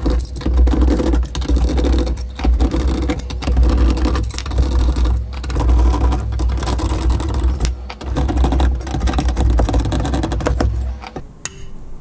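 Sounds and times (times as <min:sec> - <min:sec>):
screwdriver grinding metal screws: 0:00.0 - 0:11.2.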